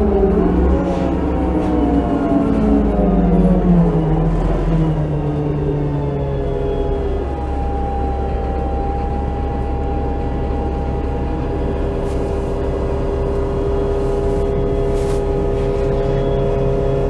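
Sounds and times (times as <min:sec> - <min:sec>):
bus engine and road rumble: 0:00.0 - 0:17.0
drivetrain whine: 0:00.0 - 0:17.0
lower whine: 0:00.0 - 0:17.0.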